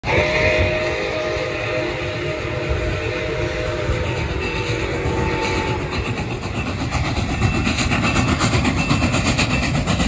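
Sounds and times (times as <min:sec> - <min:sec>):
steam locomotive chime whistle: 0:00.0 - 0:10.0.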